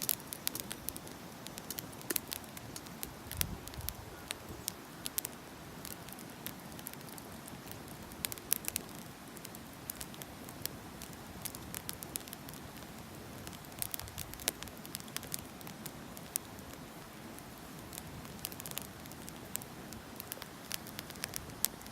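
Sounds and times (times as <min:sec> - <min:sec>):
firewood crackling and popping: 0:00.0 - 0:21.9
low rush of flames: 0:00.0 - 0:21.9.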